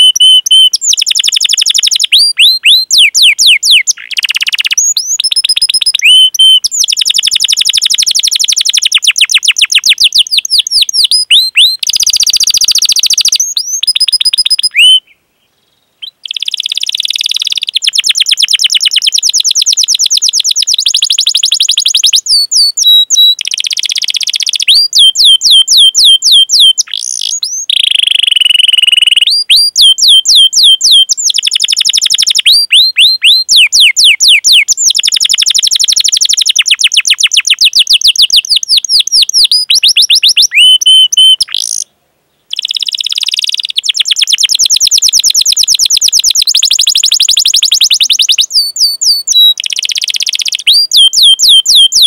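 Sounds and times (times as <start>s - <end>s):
canary singing trills: 0.0s - 41.9s, 42.5s - 52.0s.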